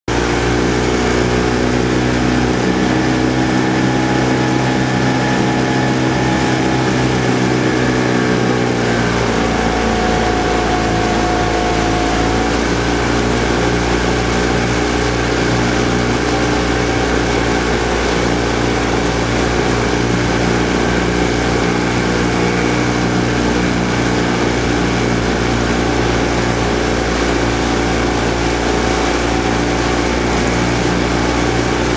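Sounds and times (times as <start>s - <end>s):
outboard motor running: 0.1s - 31.9s.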